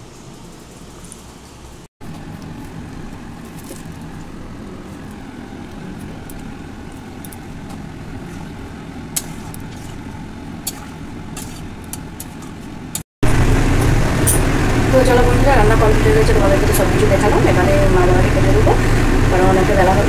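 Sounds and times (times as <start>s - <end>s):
curry cooking rushing noise: 0.0s - 20.0s.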